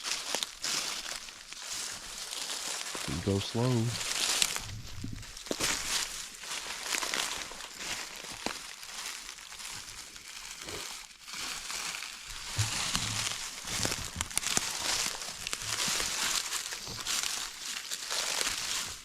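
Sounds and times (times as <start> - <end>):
footsteps in dry leaves: 0.0 - 19.0.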